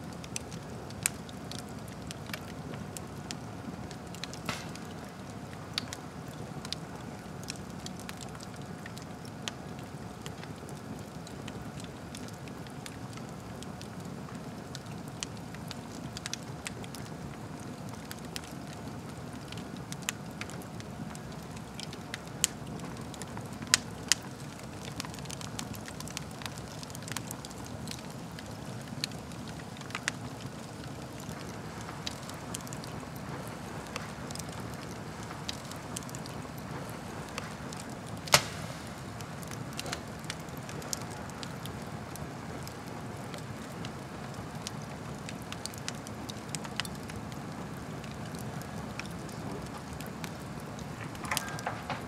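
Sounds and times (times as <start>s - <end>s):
fire crackles and pops: 0.0s - 52.0s
low rumble of flames: 0.0s - 52.0s.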